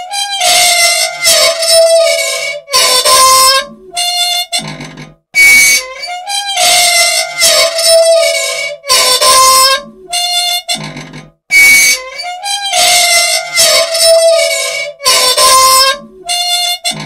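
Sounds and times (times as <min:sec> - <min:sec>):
machine squealing: 0:00.0 - 0:17.0.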